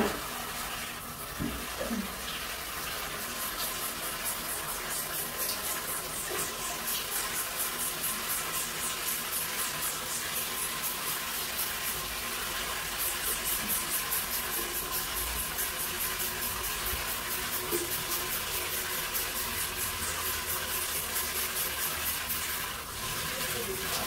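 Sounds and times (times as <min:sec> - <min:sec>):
shower water hissing: 0:00.0 - 0:24.0.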